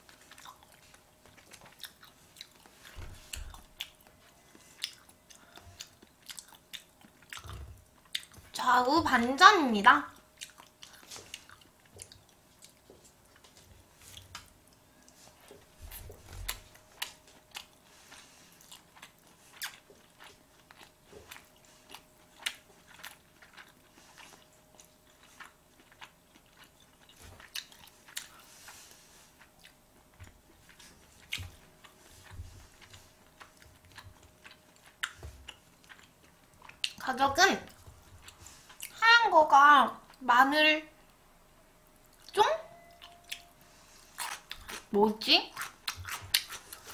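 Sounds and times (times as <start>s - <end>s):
person chewing: 0.0s - 8.6s, 10.1s - 37.0s, 37.7s - 39.0s, 42.0s - 46.9s
faint steady hum: 0.0s - 46.9s.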